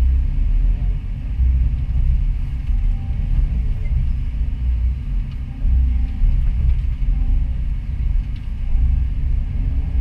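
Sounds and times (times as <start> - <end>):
excavator diesel engine rumbling: 0.0 - 10.0.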